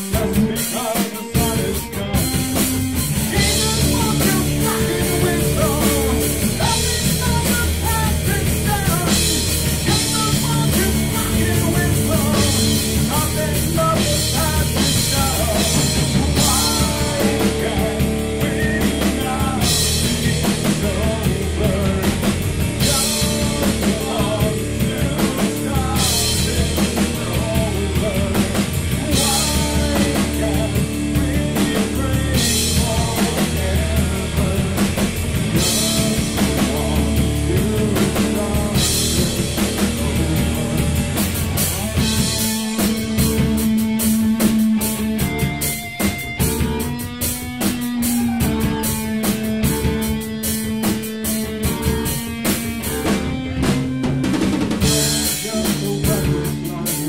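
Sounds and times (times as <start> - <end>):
live rock band playing: 0.0 - 57.0
person singing lead vocal: 0.0 - 57.0.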